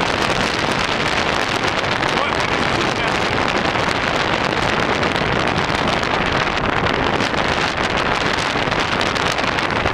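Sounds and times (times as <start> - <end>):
sea surging against rocks: 0.0 - 9.9
wind buffeting microphone: 0.0 - 9.9.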